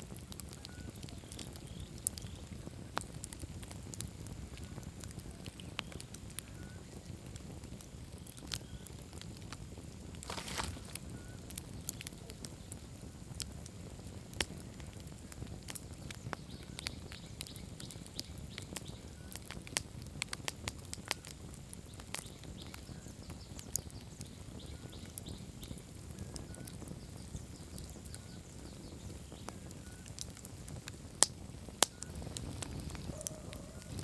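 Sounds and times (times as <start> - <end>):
campfire crackling and popping: 0.0 - 34.0
low rumble of fire: 0.0 - 34.0.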